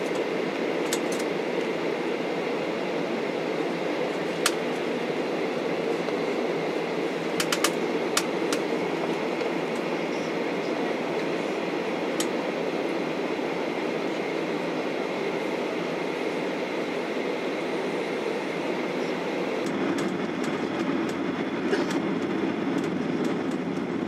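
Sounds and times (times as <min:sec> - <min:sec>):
airliner cabin noise: 0:00.0 - 0:24.0.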